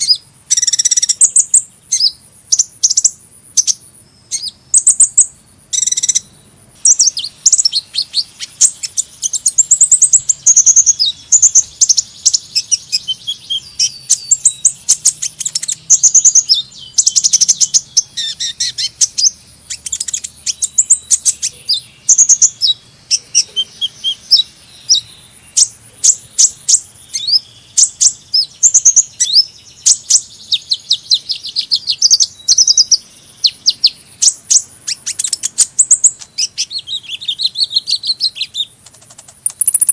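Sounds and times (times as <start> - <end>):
small bird chirping and trilling: 0.0 - 39.9.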